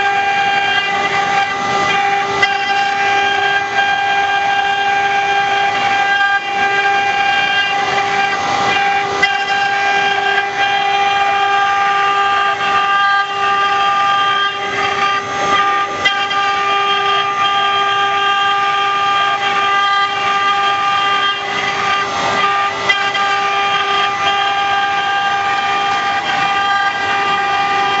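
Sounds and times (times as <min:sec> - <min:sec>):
spindle high whine: 0:00.0 - 0:28.0
wood cutting noise: 0:00.0 - 0:28.0.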